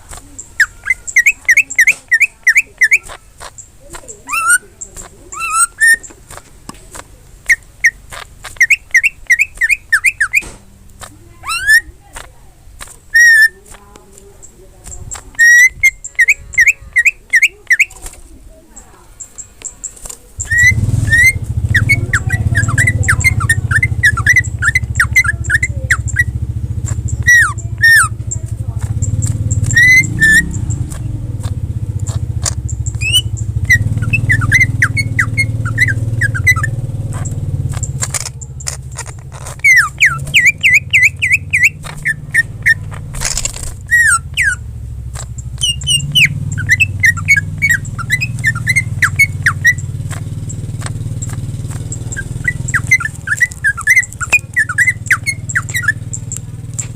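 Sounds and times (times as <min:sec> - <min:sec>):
low motor rumble: 0:00.0 - 0:56.9
bird singing whistled notes: 0:00.3 - 0:06.4, 0:07.4 - 0:12.3, 0:13.1 - 0:13.8, 0:14.4 - 0:18.2, 0:18.8 - 0:56.9.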